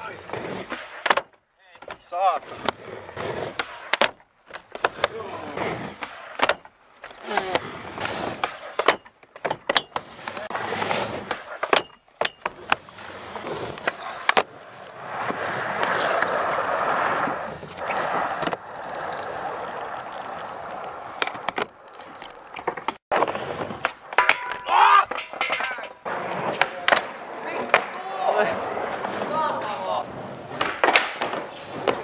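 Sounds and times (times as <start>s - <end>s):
skateboard clacks and smacks: 0.0s - 32.0s
skateboard wheels rolling: 0.0s - 32.0s.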